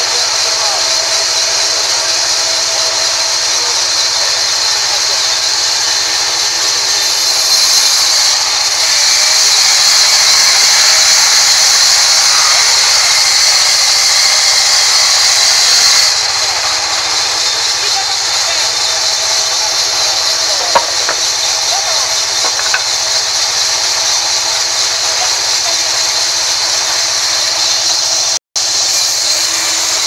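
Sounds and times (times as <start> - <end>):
band saw cutting log: 0.0 - 30.0.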